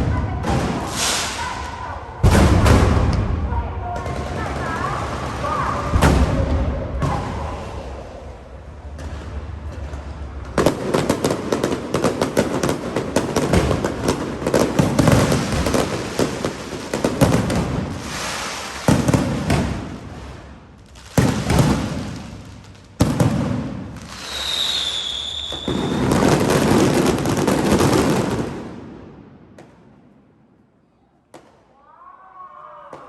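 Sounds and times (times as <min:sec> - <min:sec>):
fireworks crackling and popping: 0:00.0 - 0:30.1
fireworks bangs: 0:00.0 - 0:31.7.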